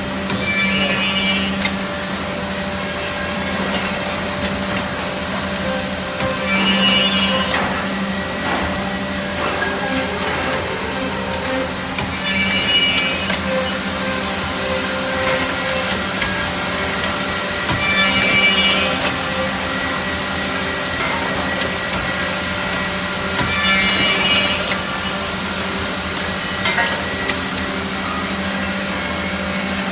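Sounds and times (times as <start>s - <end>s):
machine cutting through wood: 0.0s - 29.9s
machine motors humming: 0.0s - 29.9s.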